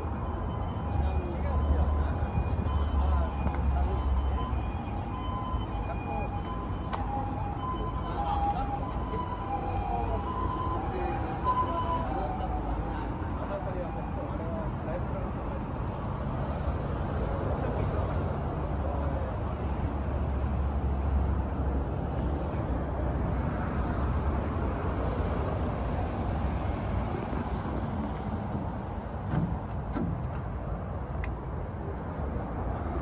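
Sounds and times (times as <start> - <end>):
low rumble of motor vehicles: 0.0 - 33.0.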